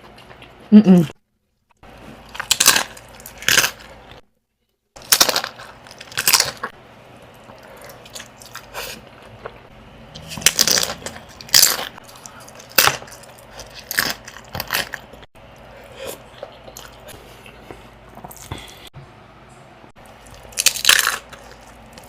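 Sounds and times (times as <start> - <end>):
person chewing crunchy food: 1.8 - 4.2, 5.0 - 18.9, 20.0 - 22.0.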